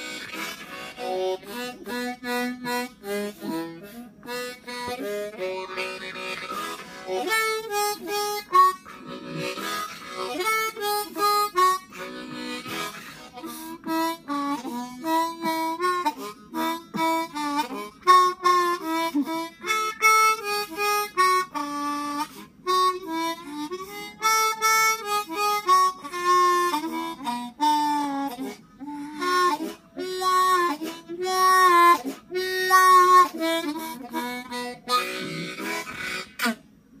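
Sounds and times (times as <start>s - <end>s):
harmonica melody: 0.0s - 36.7s.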